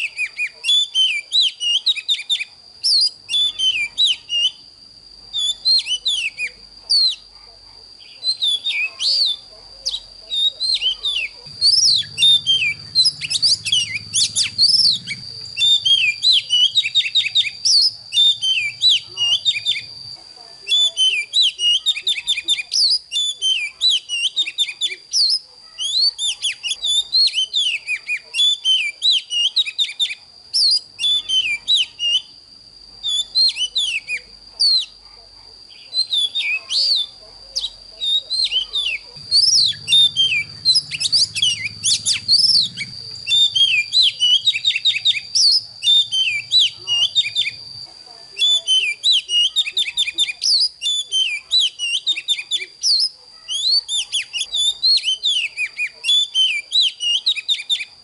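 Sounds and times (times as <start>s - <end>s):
bird singing whistled notes: 0.0s - 7.3s, 8.0s - 32.4s, 33.0s - 35.0s, 35.7s - 58.0s.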